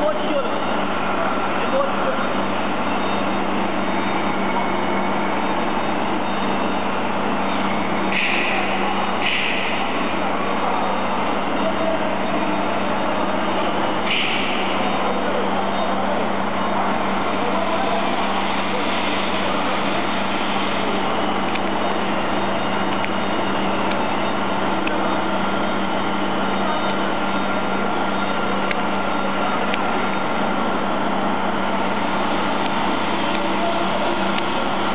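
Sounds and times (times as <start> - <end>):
production line machinery hum: 0.0 - 34.9.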